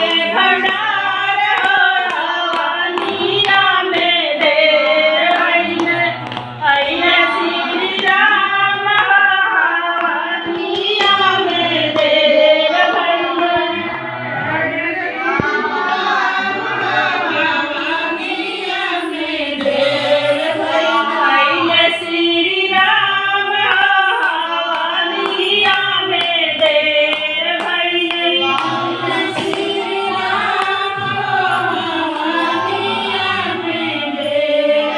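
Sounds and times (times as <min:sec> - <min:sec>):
group singing devotional song: 0:00.0 - 0:34.9.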